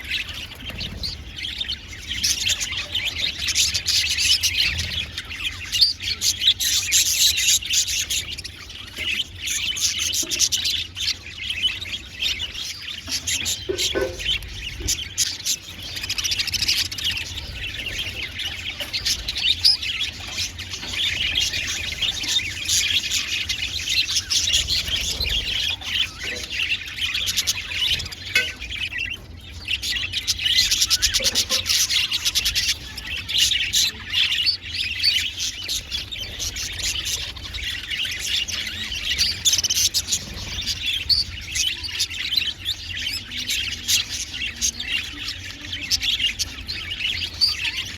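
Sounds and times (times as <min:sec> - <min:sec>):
budgerigars chattering: 0:00.0 - 0:47.9.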